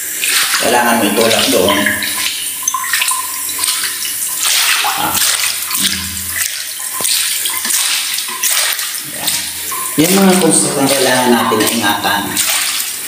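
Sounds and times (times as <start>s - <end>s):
water splashing on tiled floor: 0.0s - 13.0s.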